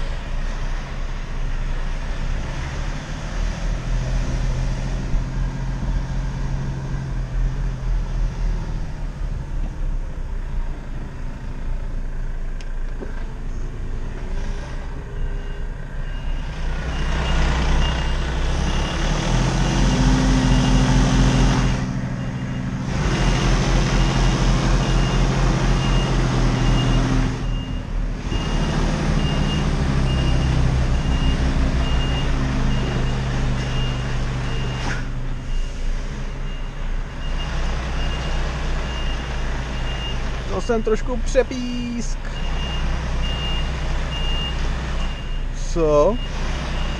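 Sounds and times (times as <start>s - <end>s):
truck diesel engine running: 0.0s - 46.9s.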